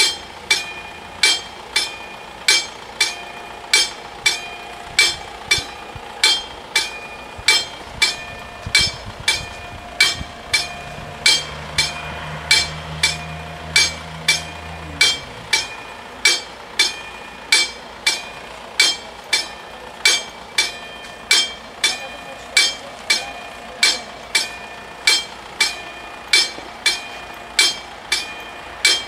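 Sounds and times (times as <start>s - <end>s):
level crossing warning bells: 0.0s - 29.0s
low vehicle engine hum: 0.0s - 29.0s.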